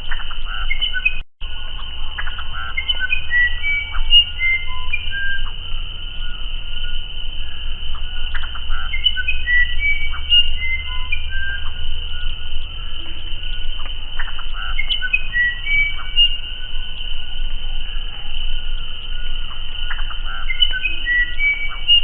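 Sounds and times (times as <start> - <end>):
bird whistling song: 0.0 - 22.0
high insect drone: 0.0 - 22.0.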